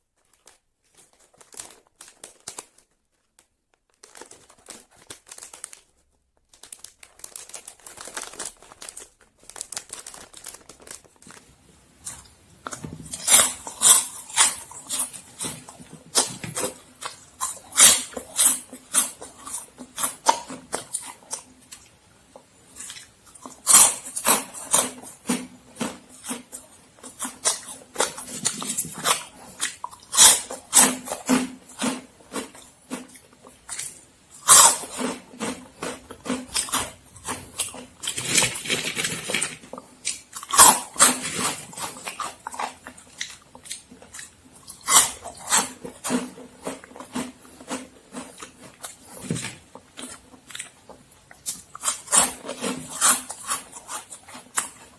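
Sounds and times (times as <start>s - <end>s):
crunching and chewing snacks: 0.0s - 54.9s
plastic packet crinkling: 0.0s - 54.9s.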